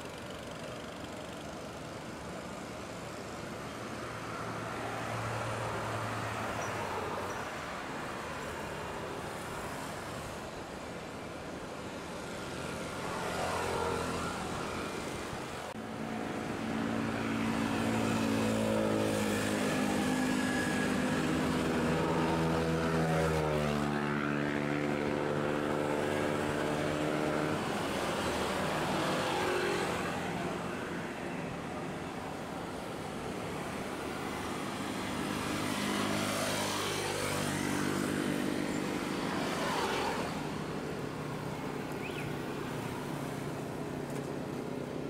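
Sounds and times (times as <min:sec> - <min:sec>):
vehicle engines passing: 0:00.0 - 0:45.0.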